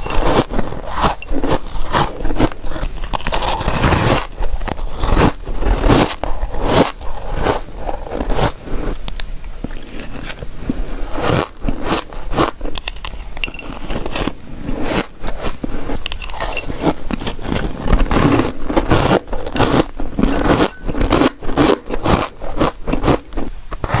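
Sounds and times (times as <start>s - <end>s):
frost being chewed: 0.0s - 24.0s.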